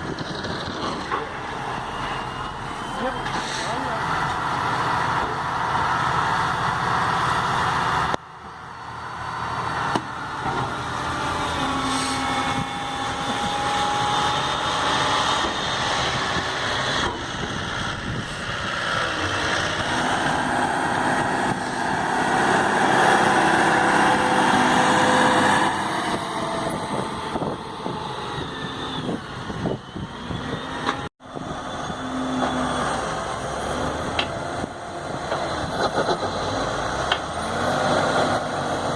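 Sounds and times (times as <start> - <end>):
heavy diesel farm machinery engines: 0.0 - 38.9.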